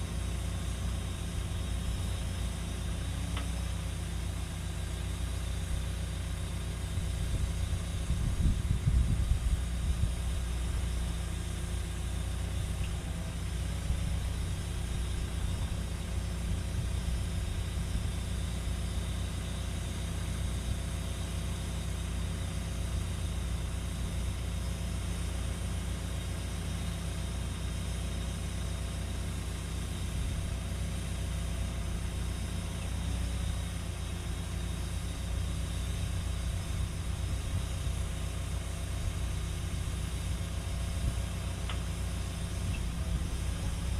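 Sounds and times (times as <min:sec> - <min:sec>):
excavator diesel engine idling: 0:00.0 - 0:43.9.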